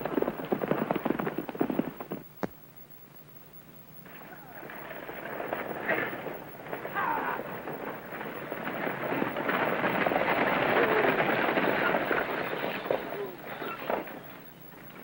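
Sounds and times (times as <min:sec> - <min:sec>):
hooves and wheels clattering: 0:00.0 - 0:02.5, 0:04.0 - 0:15.0.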